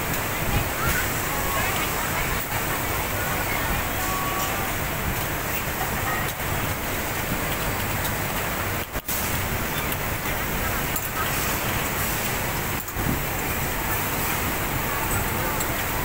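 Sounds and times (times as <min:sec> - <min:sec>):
industrial sewing machines: 0:00.0 - 0:16.0
ventilation: 0:00.0 - 0:16.0.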